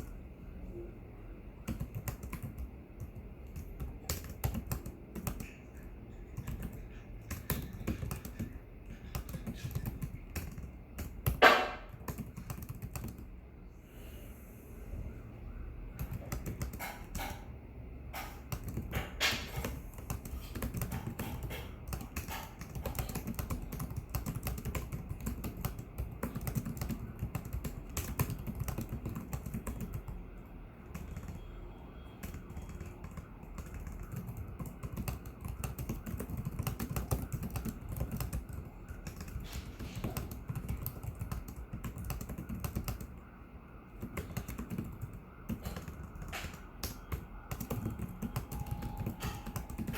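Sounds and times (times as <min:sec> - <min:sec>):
laptop keyboard typing: 0:00.0 - 0:00.2, 0:01.6 - 0:13.4, 0:15.9 - 0:49.9.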